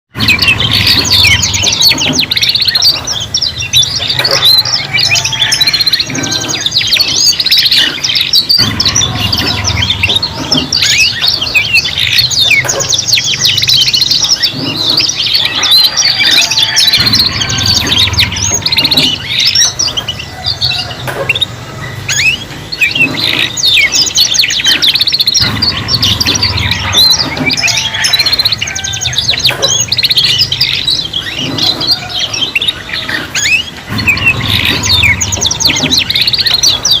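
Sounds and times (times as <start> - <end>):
canaries singing trills: 0.1 - 37.0.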